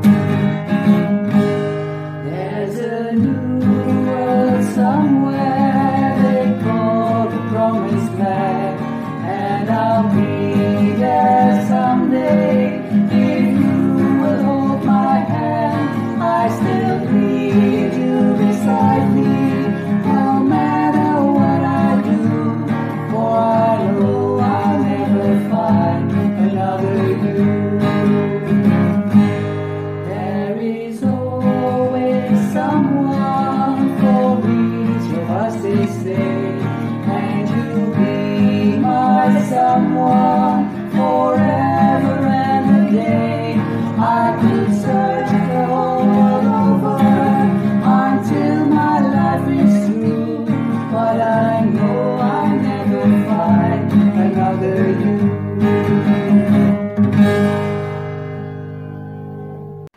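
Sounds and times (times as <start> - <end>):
acoustic guitar strumming: 0.0 - 59.9
two women singing: 2.2 - 28.8, 30.0 - 56.7.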